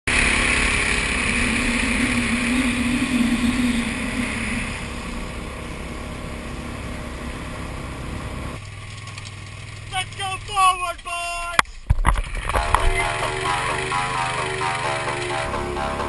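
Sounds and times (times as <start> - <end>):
outboard motor running: 0.1 - 16.0.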